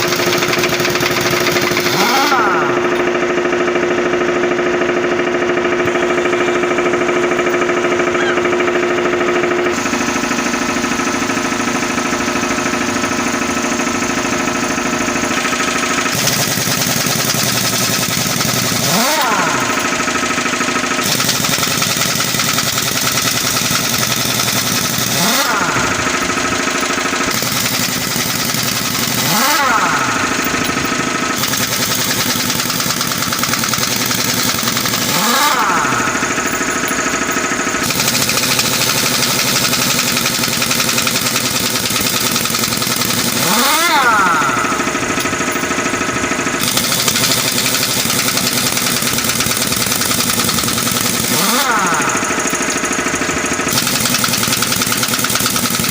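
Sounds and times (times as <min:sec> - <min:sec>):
engine revving: 0:00.0 - 0:55.9.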